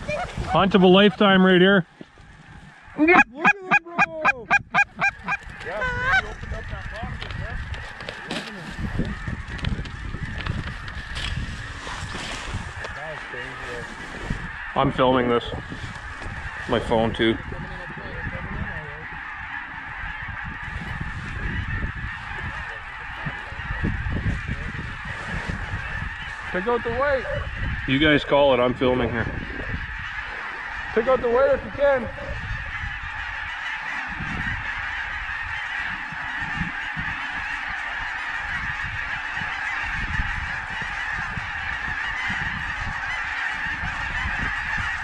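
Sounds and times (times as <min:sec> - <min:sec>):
flock of geese honking: 0:00.0 - 0:45.0.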